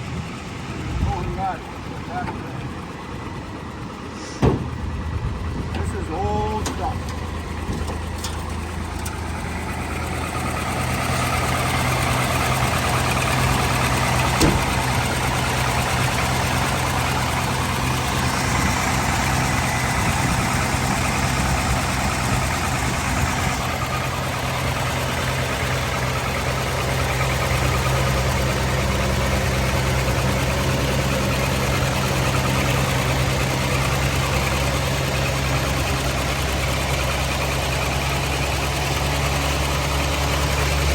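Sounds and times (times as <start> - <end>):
engine knock: 0.0 - 40.9
pickup truck engine idling: 0.0 - 40.9.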